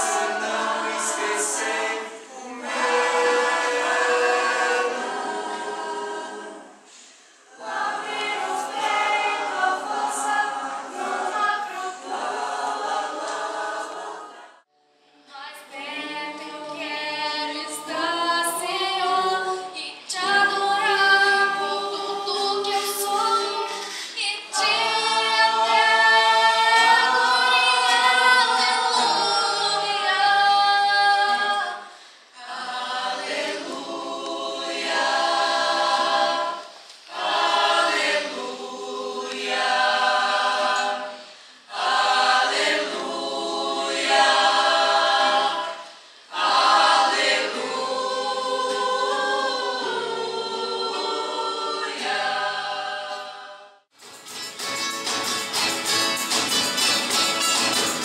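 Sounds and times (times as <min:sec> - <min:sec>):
mixed choir singing in harmony: 0:00.0 - 0:14.7, 0:15.3 - 0:53.9.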